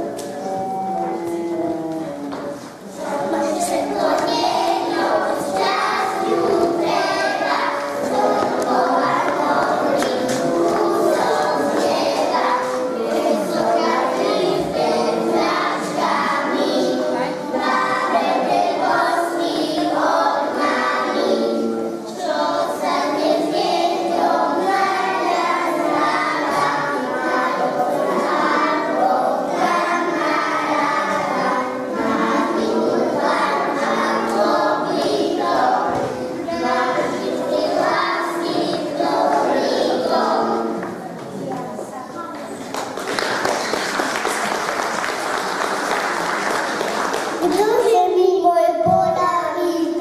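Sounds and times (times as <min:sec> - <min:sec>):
children singing: 0:00.0 - 0:41.4, 0:48.4 - 0:50.0
musical accompaniment: 0:00.0 - 0:41.5.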